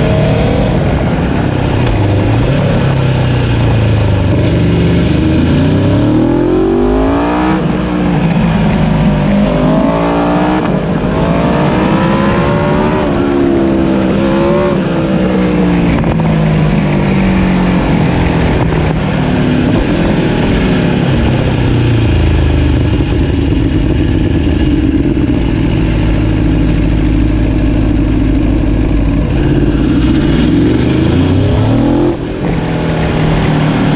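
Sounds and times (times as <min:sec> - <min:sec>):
motorcycle engine accelerating: 0:00.0 - 0:33.9
wind rush: 0:00.0 - 0:33.9.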